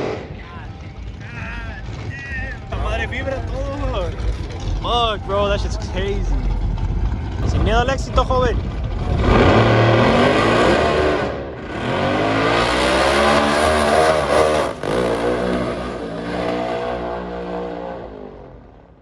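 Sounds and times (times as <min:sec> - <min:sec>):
truck engine at full throttle: 0:00.0 - 0:19.0.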